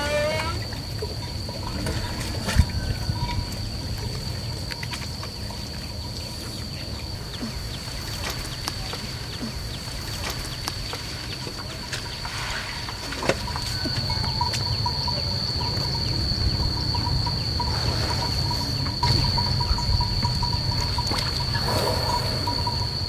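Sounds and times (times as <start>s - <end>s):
high insect whine: 0.0s - 23.0s.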